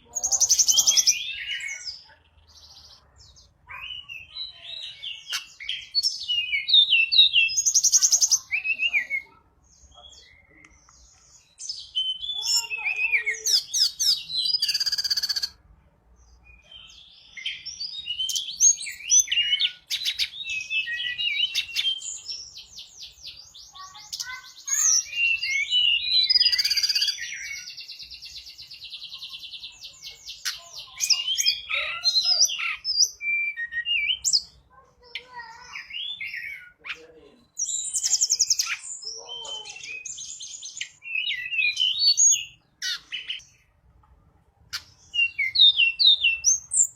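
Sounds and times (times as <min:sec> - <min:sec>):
bird singing chirps and trills: 0:00.0 - 0:15.6, 0:16.2 - 0:43.9, 0:44.6 - 0:46.9.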